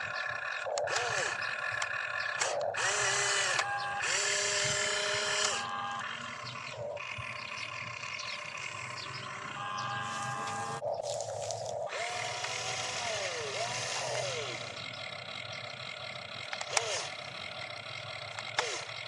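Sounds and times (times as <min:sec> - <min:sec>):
small electric motors whining: 0:00.0 - 0:19.0
steady mechanical whir: 0:00.0 - 0:19.0.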